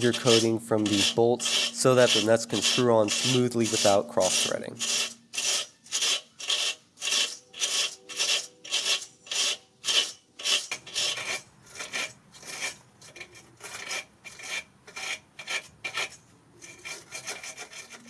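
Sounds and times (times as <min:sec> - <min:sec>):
wire brush scrubbing bolts: 0:00.0 - 0:18.0.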